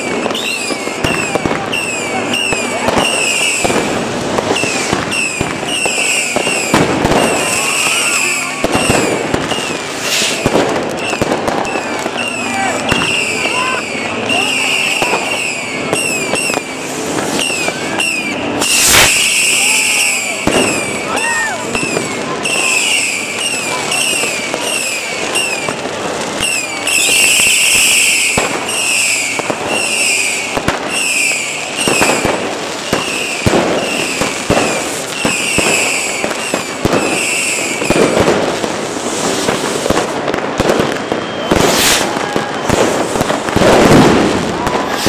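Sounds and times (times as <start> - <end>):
fireworks bursting with bangs: 0.0 - 45.0.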